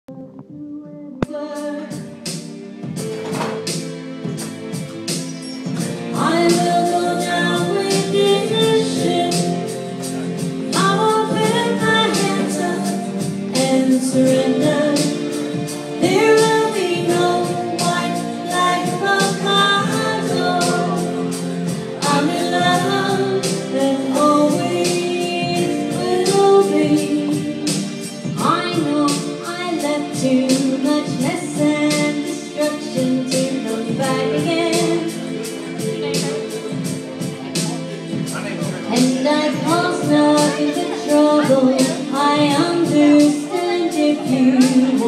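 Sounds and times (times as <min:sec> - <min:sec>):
woman singing: 0:00.1 - 0:02.3, 0:05.8 - 0:37.0, 0:38.8 - 0:45.0
backing track with steady beat: 0:00.1 - 0:45.0.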